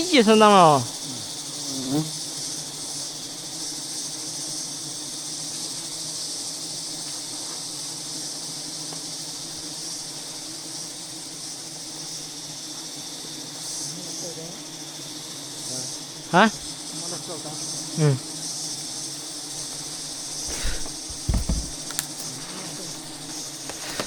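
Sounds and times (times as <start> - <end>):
honeybees humming: 0.0 - 24.0
insects chirring: 0.0 - 24.0.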